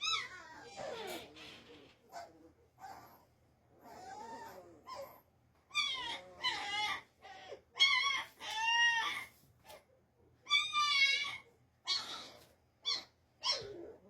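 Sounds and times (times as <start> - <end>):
puppies crying and whining: 0.0 - 9.4, 10.5 - 14.0.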